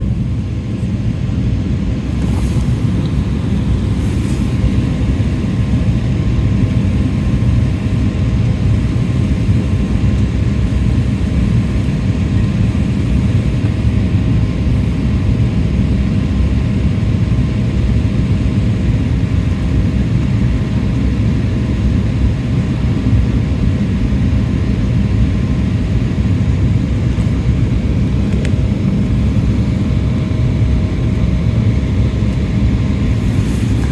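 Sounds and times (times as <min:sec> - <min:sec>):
jet cabin engine rumble: 0:00.0 - 0:33.9.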